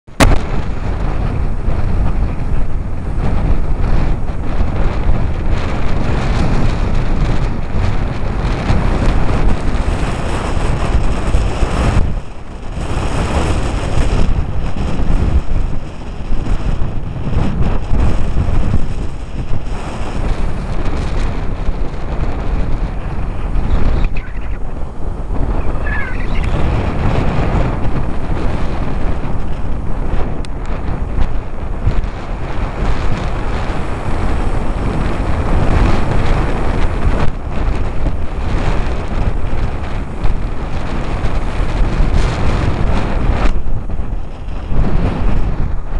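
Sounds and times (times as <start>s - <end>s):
wind buffeting microphone: 0.0s - 45.9s
surf breaking on rocky shore: 0.1s - 45.9s.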